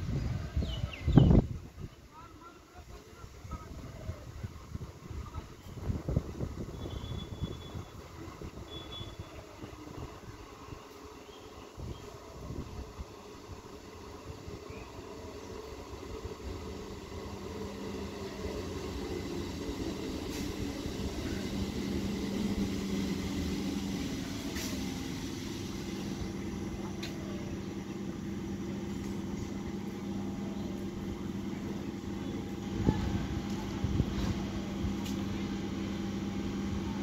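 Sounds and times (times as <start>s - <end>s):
electric train braking hum: 5.6s - 37.0s.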